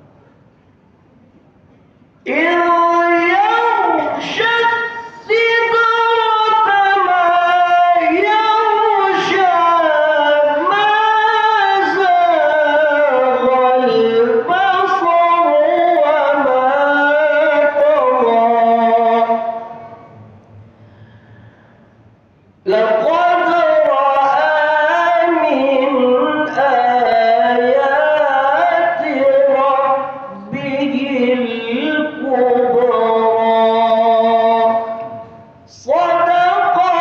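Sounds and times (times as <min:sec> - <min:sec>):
person reciting melodically: 0:02.2 - 0:20.2, 0:22.6 - 0:37.0.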